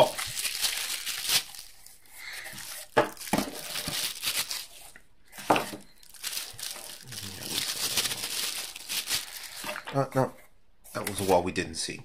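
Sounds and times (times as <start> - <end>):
packaging rustling and crinkling: 0.0 - 10.1.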